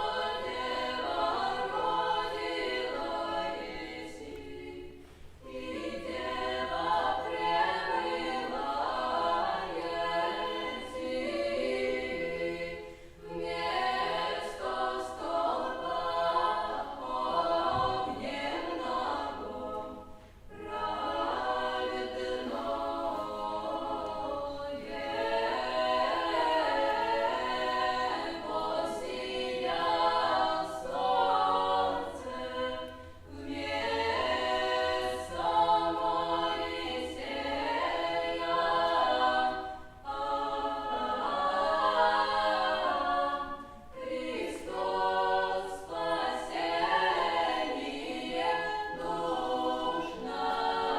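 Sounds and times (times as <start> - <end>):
choir singing unaccompanied: 0.0 - 50.9.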